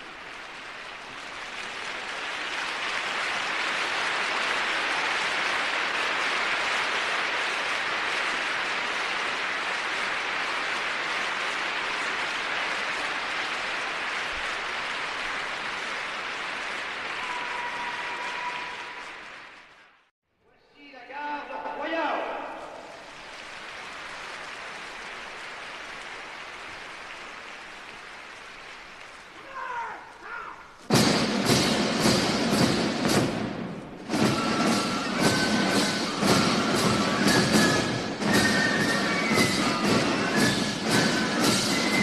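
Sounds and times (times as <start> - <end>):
crowd applauding: 0.0 - 20.1, 22.2 - 42.0.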